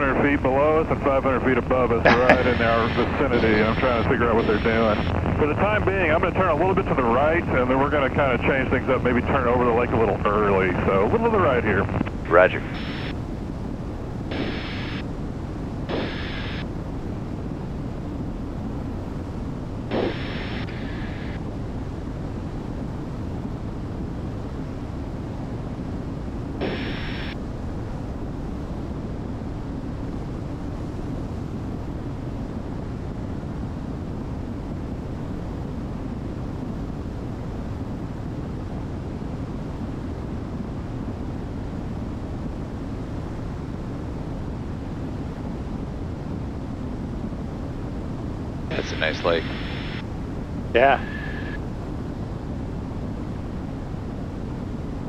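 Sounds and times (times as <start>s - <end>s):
aircraft cabin engine drone: 0.0s - 55.0s.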